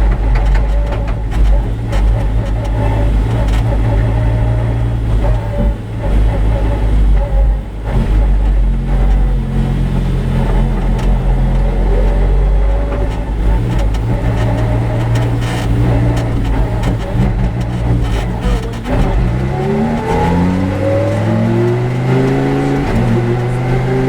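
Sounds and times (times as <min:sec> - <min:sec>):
race car engine running: 0:00.0 - 0:24.0.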